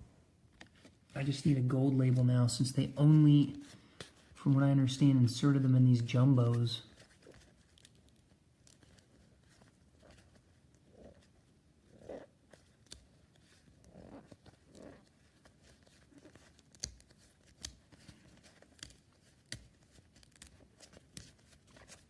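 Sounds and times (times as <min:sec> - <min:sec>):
soft crinkling: 0:00.0 - 0:22.0
trading cards rustling and clicking: 0:00.5 - 0:11.3, 0:12.4 - 0:22.0.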